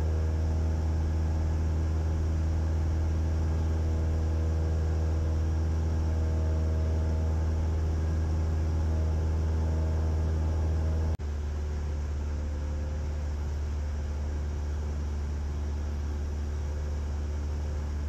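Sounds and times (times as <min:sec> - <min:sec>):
airplane engine and propeller droning: 0:00.0 - 0:18.0.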